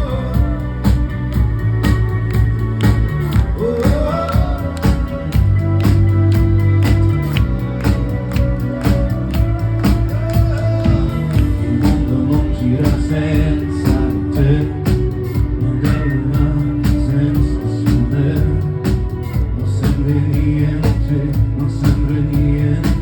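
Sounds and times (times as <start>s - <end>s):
live rock band playing: 0.0s - 23.0s
steady drum beat: 0.0s - 23.0s.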